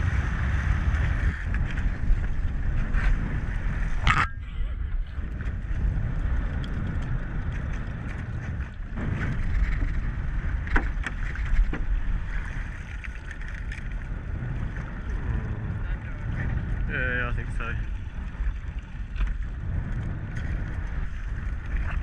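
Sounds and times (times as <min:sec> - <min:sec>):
wind on microphone: 0:00.0 - 0:22.0
water lapping against boat hull: 0:00.4 - 0:22.0.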